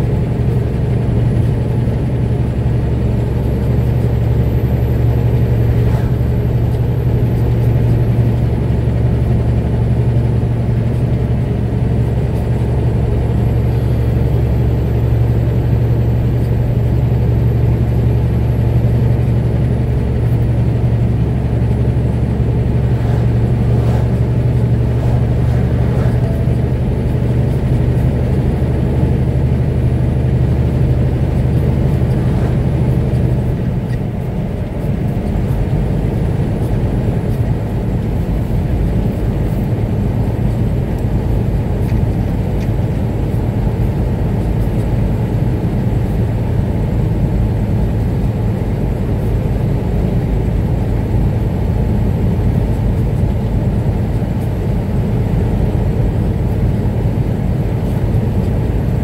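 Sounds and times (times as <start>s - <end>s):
vehicle engine and tyres droning: 0.0s - 59.0s.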